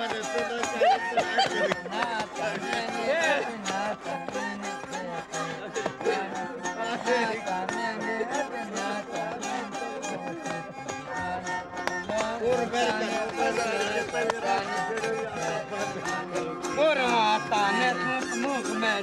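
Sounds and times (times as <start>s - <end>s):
fiddle-like melody: 0.0s - 19.0s
strummed strings: 0.0s - 19.0s.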